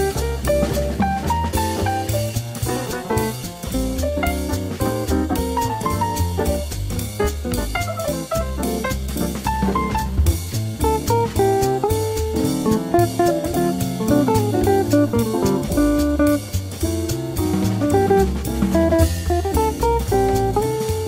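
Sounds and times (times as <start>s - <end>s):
fast jazz music: 0.0s - 21.0s
steady drum beat: 0.0s - 21.0s.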